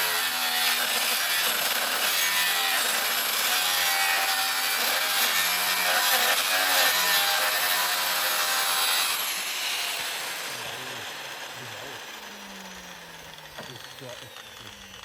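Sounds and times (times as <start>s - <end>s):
tool rasping on steel: 0.0s - 15.0s.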